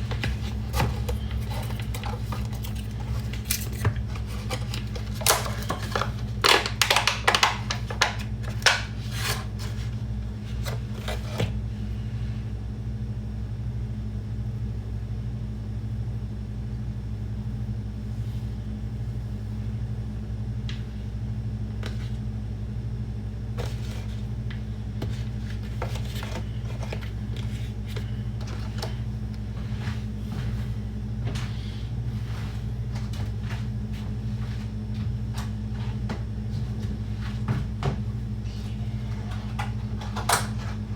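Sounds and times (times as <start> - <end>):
low electrical hum: 0.0 - 40.9.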